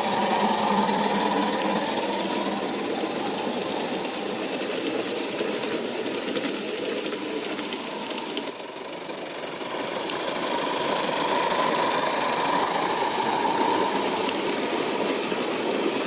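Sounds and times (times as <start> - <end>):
model train whirring and clattering: 0.0 - 16.0.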